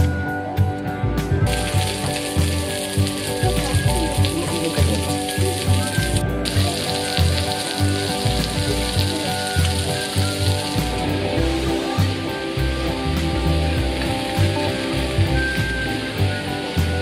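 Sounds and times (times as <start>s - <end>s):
background music with beat: 0.0s - 17.0s
food sizzling on griddle: 1.5s - 17.0s.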